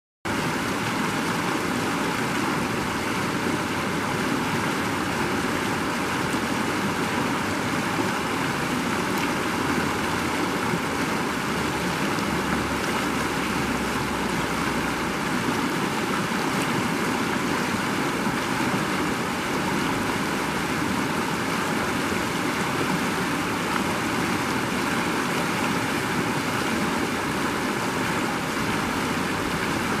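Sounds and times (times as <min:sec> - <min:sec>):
creek rushing over rocks: 0:00.3 - 0:30.0.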